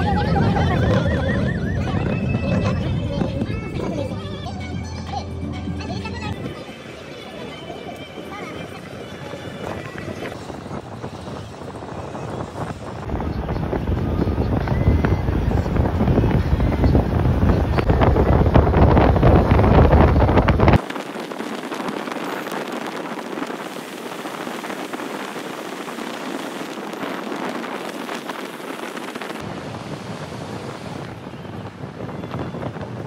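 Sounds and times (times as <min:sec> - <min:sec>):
wind buffeting microphone: 0:00.0 - 0:05.2, 0:05.9 - 0:33.0
bus road noise rumble: 0:00.0 - 0:33.0.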